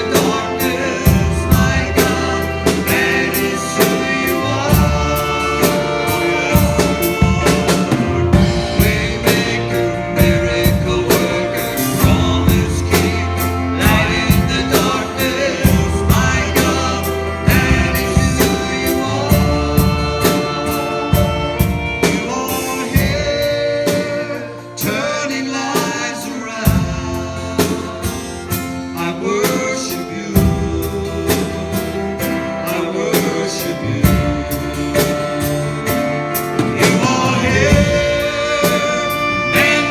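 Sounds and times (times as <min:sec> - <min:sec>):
steady drum beat: 0:00.0 - 0:25.1, 0:25.7 - 0:39.9
singing: 0:00.0 - 0:28.3, 0:28.9 - 0:35.7, 0:36.6 - 0:39.9
worship band playing: 0:00.0 - 0:39.9.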